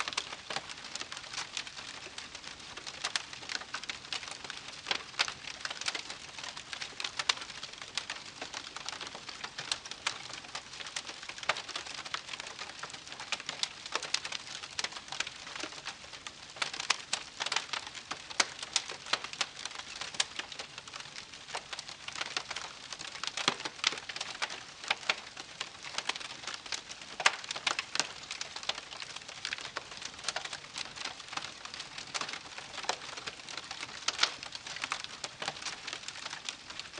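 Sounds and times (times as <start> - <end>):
fire popping and snapping: 0.0 - 36.9
campfire crackling: 0.1 - 36.9.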